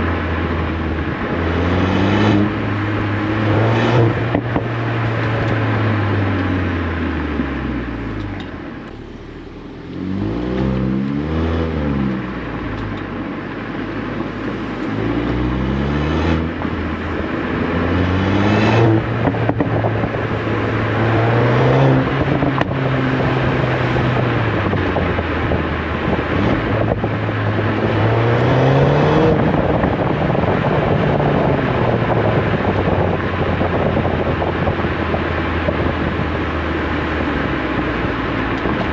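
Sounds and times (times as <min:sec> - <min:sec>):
car engine revving while driving: 0:00.0 - 0:38.9.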